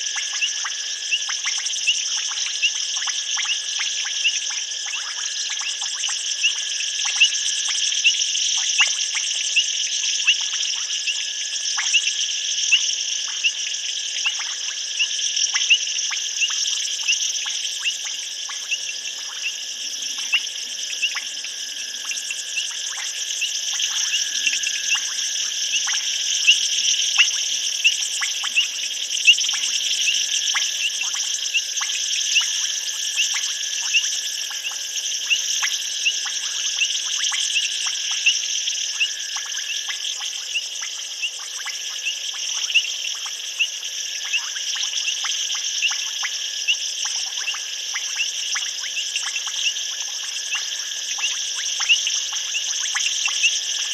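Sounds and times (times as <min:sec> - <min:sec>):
insects trilling: 0:00.0 - 0:53.9
sharp insect chirps and clicks: 0:00.0 - 0:53.9.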